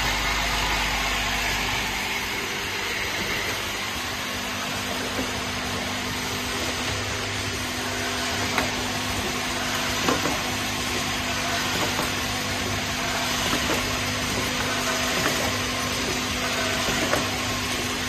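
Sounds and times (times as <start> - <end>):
machine humming and hissing: 0.0 - 18.0.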